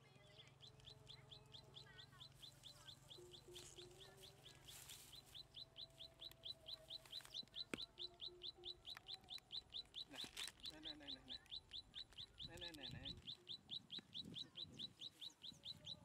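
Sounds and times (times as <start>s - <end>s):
lower bird calls: 0.4s - 16.0s.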